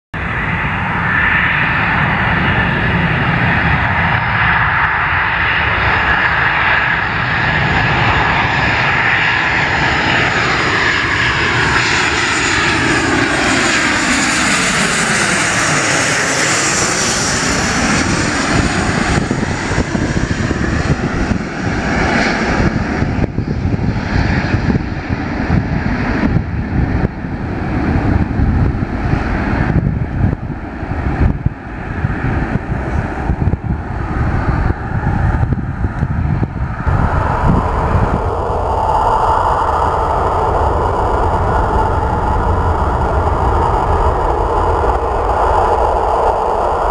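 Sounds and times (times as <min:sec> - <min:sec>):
jet engines whine and roar: 0:00.2 - 0:46.9.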